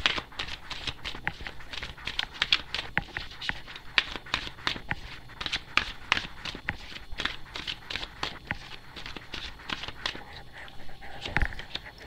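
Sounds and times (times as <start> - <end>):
cards being shuffled by hand: 0.0 - 12.0.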